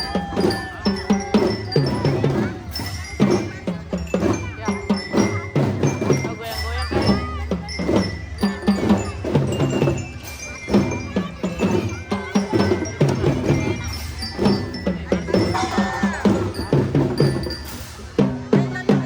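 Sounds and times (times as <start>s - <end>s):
bell lyra melody: 0.0s - 19.0s
drum beats: 0.0s - 19.0s.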